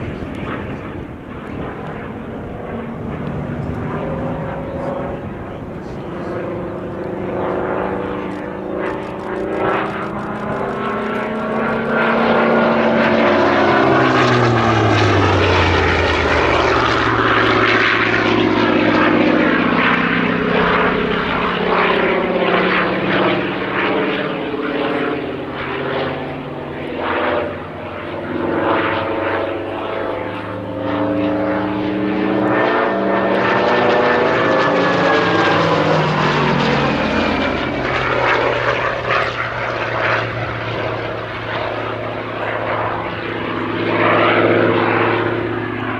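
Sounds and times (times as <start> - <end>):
propeller plane flying overhead: 0.0 - 45.9.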